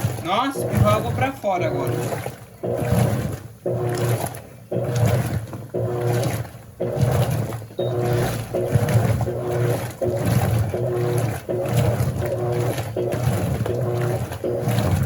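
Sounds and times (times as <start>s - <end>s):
washing machine motor hum and whine: 0.0s - 15.0s
water sloshing in tub: 0.0s - 15.0s.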